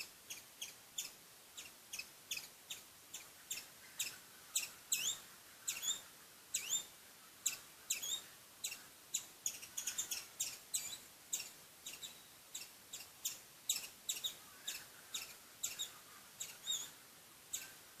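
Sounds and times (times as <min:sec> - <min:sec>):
squirrel chirping: 0:00.0 - 0:17.8.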